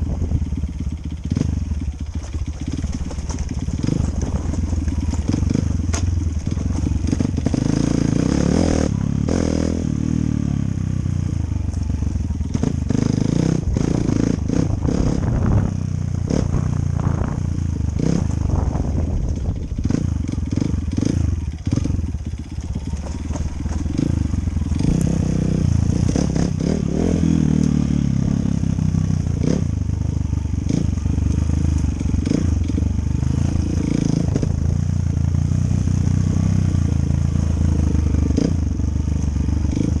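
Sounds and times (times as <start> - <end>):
dirt bike engine: 0.0 - 40.0.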